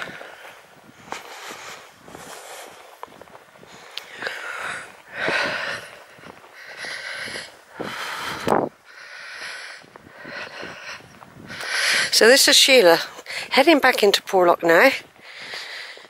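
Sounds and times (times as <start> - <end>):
person breathing in and out: 0.0 - 12.2, 15.2 - 16.0.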